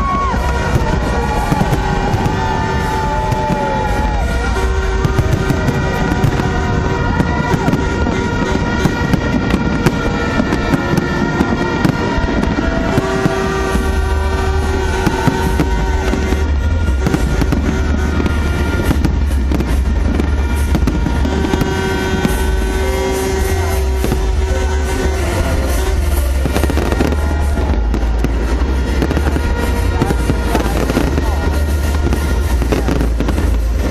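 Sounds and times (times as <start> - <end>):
fireworks crackling and popping: 0.0 - 33.9
loud music with heavy bass: 0.0 - 33.9.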